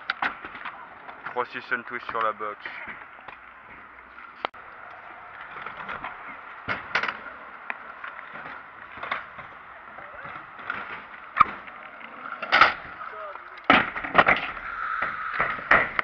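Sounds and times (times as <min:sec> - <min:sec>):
scooter decks clattering on ground: 0:00.0 - 0:16.0
scooter wheels rolling over concrete: 0:00.0 - 0:16.0.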